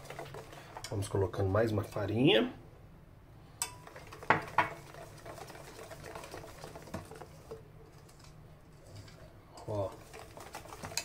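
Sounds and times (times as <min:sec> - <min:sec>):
wire whisk rattling in metal bowl: 0:00.0 - 0:02.1, 0:03.6 - 0:11.0.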